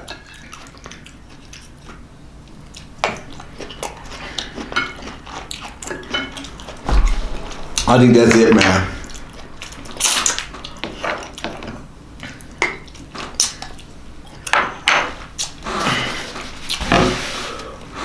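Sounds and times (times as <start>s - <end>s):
soft eating noises: 0.0s - 6.8s, 10.0s - 18.0s.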